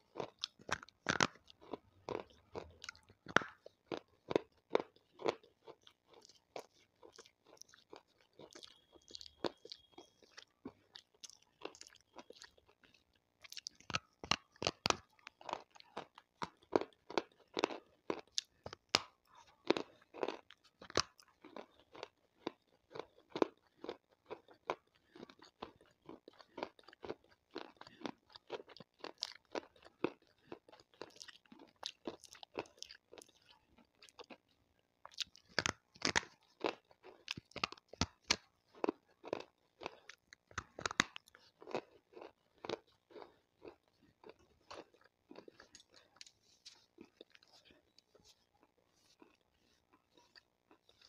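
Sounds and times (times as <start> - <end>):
chewing gritty stone crunches: 0.0 - 51.0.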